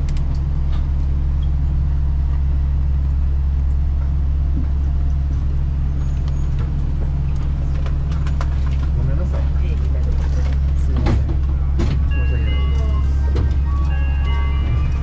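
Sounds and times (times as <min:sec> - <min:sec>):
monorail train rumble and hum: 0:00.0 - 0:15.0.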